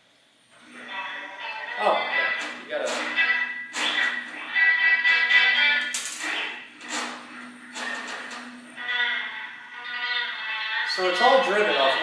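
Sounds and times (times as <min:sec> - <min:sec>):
music from tape player: 0:00.6 - 0:12.0.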